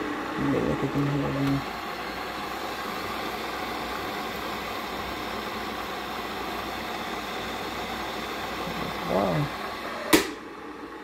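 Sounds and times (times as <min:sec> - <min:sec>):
electric kettle boiling: 0:00.0 - 0:11.0.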